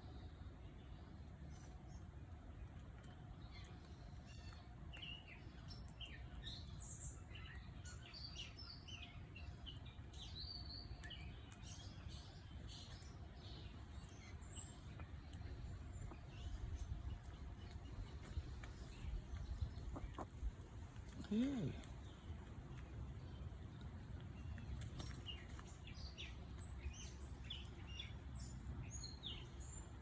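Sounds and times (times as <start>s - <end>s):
birds chirping: 0.0s - 30.0s
low background rumble: 0.0s - 30.0s.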